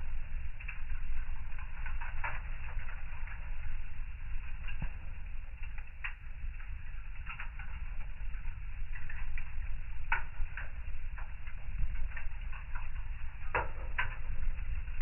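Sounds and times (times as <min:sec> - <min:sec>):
burning logs crackling and popping: 0:00.0 - 0:15.0
low rumble of flame: 0:00.0 - 0:15.0.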